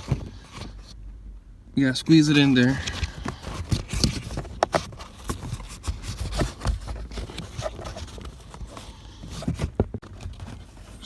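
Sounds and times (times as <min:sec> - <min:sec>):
air filter scraping in plastic housing: 0:00.0 - 0:01.0, 0:02.1 - 0:11.0.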